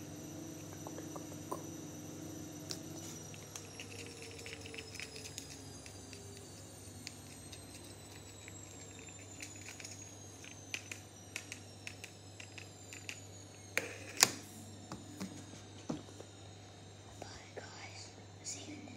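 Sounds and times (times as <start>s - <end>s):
faint low hum: 0.0s - 18.9s.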